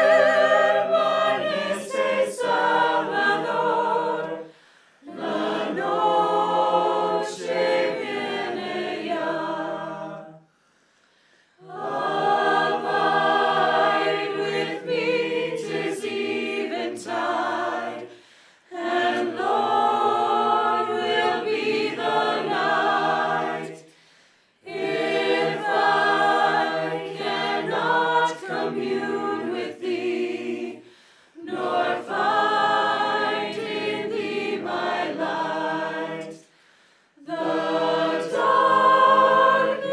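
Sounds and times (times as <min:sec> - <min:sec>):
choir singing a hymn: 0:00.0 - 0:10.5, 0:11.6 - 0:39.9.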